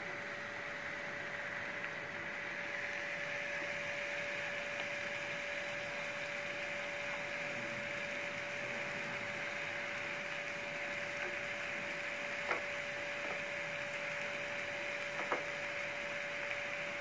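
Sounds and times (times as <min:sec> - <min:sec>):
chicken and onion sizzling in pan: 0:00.0 - 0:17.0
steady hum: 0:00.0 - 0:17.0.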